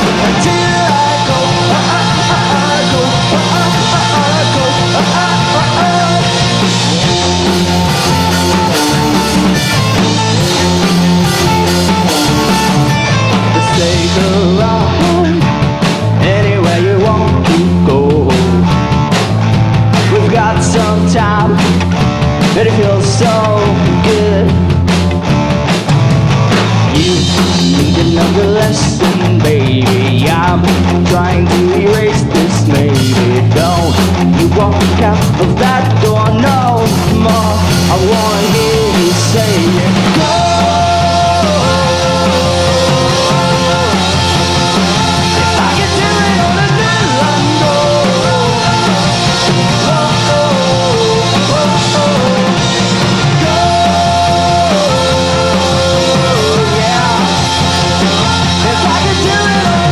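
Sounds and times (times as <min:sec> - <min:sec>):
bass guitar: 0:00.0 - 0:59.9
drums and cymbals: 0:00.0 - 0:59.9
electric guitars: 0:00.0 - 0:59.9.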